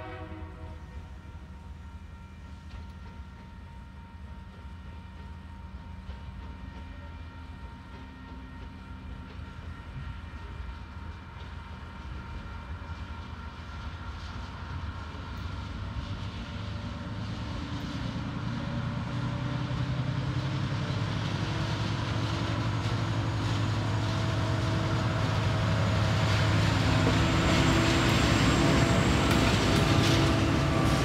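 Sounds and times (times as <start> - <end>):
diesel locomotive engines droning: 0.0 - 31.0
high locomotive whine: 0.0 - 31.0
steel train wheels: 0.0 - 31.0.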